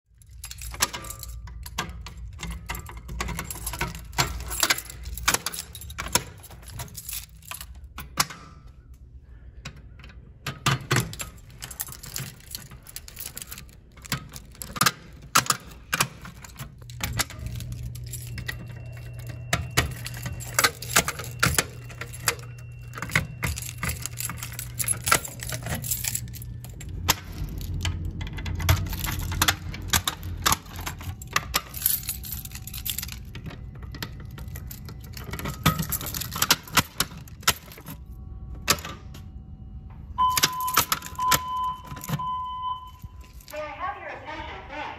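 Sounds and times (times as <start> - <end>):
keys jangling: 0.1 - 9.0, 9.6 - 39.2, 40.2 - 43.7
steady low hum: 0.2 - 44.9.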